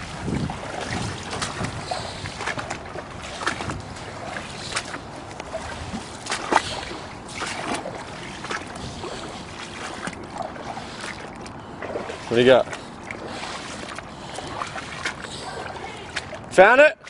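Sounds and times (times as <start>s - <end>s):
feet wading through water: 0.0s - 17.0s.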